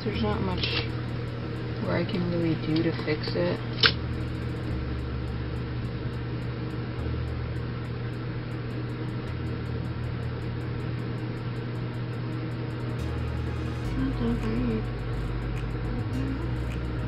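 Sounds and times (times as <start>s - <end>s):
machine humming and hissing: 0.0s - 17.0s.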